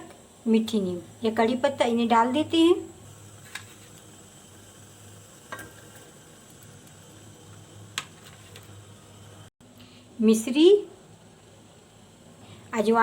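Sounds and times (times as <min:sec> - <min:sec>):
water boiling in a pan: 0:00.0 - 0:09.5, 0:10.2 - 0:13.0.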